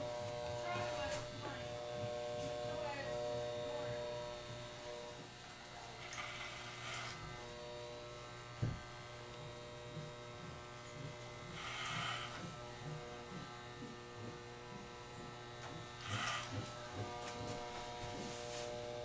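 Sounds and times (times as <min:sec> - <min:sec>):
electric hair clippers buzzing: 0:00.0 - 0:19.0.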